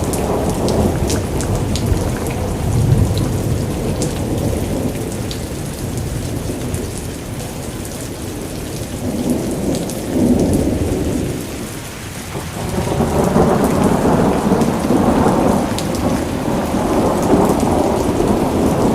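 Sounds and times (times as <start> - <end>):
deep rolling thunder: 0.0 - 7.6, 9.0 - 18.9
steady rain: 0.0 - 18.9.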